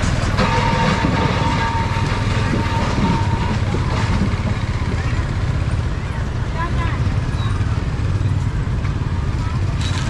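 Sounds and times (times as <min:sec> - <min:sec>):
busy market ambience: 0:00.0 - 0:10.0
vehicle engine running: 0:00.0 - 0:10.0.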